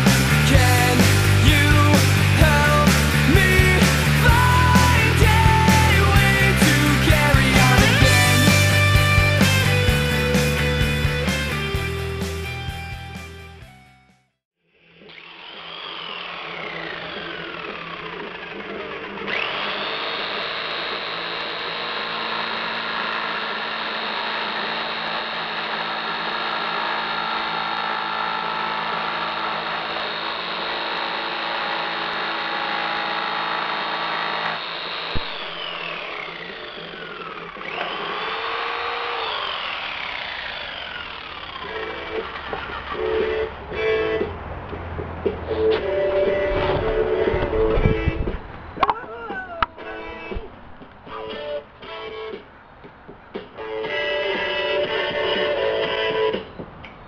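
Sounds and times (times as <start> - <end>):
electric power saw cutting wood: 0.0 - 13.4, 14.8 - 49.0, 49.8 - 57.0.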